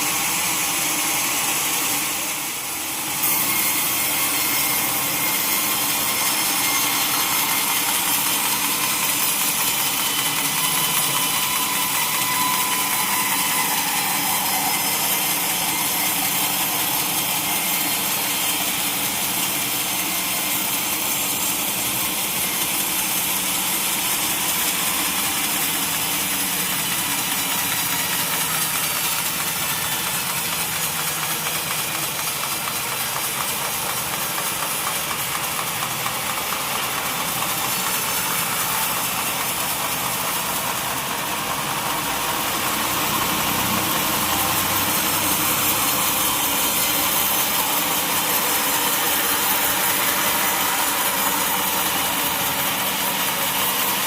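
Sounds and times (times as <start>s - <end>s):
sawmill saw whirring: 0.0s - 54.0s.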